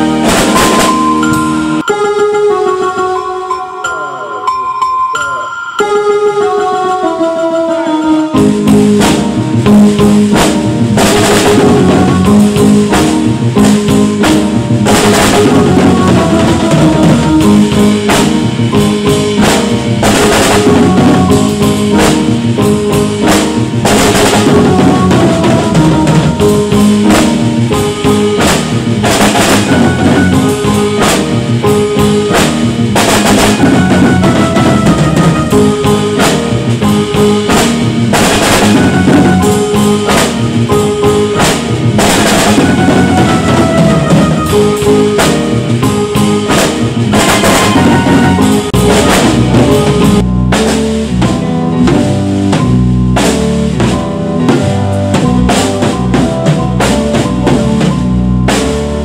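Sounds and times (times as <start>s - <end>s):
drum kit playing: 0.0s - 59.0s
recorded backing music: 0.0s - 59.0s.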